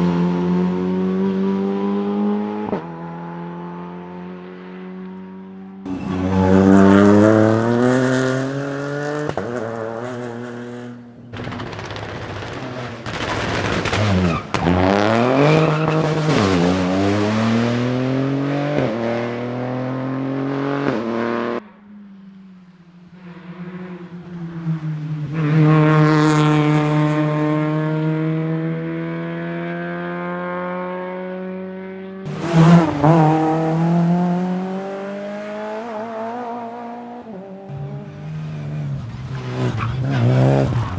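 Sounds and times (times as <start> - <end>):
rally car engines revving: 0.0 - 21.7, 22.4 - 40.9.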